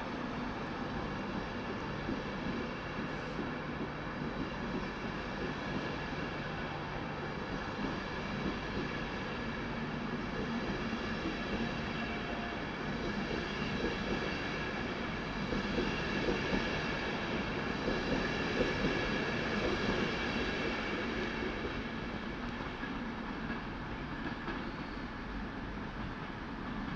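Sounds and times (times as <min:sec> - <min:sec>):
train coaches rolling past: 0:00.0 - 0:26.9.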